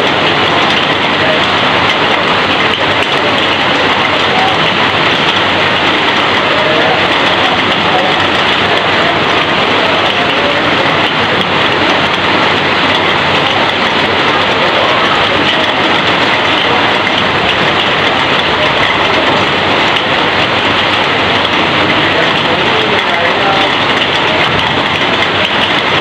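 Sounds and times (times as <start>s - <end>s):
heavy rain pouring off metal roof: 0.0s - 26.0s.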